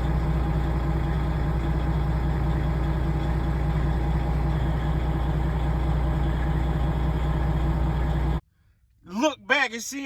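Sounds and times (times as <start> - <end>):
truck diesel engine idling: 0.0 - 8.4.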